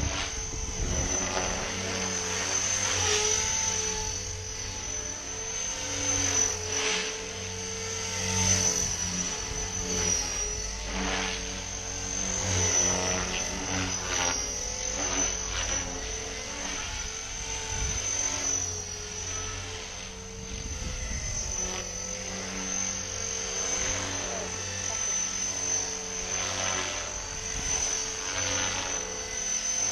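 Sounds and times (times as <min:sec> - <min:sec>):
helicopter motor whine: 0:00.0 - 0:29.9
spinning rotor blades: 0:00.0 - 0:29.9.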